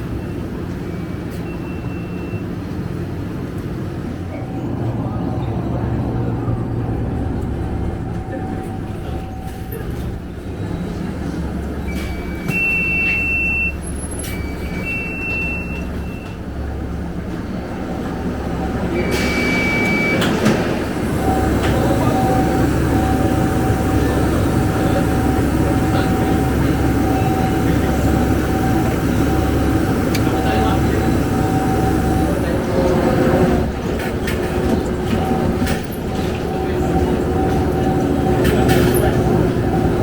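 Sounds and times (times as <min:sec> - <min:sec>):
bus diesel engine droning: 0:00.0 - 0:40.0
road noise: 0:00.0 - 0:40.0.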